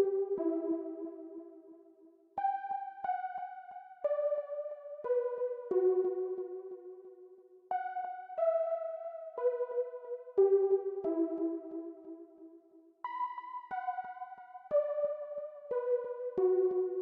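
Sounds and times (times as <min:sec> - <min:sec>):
keyboard melody: 0:02.4 - 0:07.0, 0:07.7 - 0:17.0.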